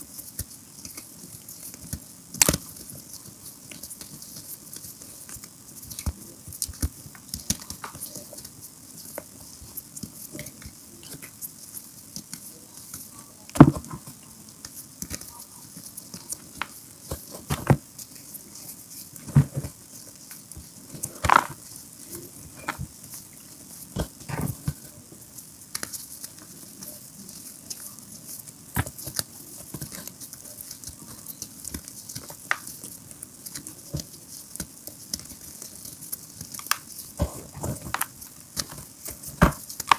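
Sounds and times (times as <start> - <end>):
steady high hiss: 0.0 - 39.9
hands crumbling chalk: 0.2 - 24.9, 25.7 - 39.9.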